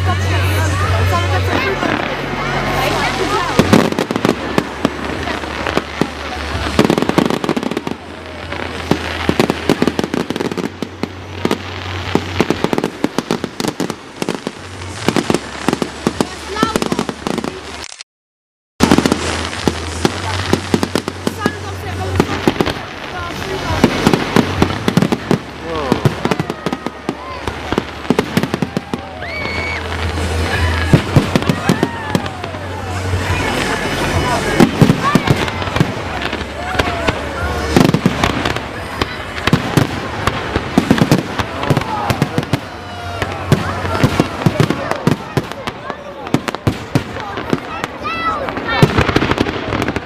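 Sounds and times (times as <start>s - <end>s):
fireworks bangs and cracks: 0.0s - 18.0s, 18.8s - 50.0s.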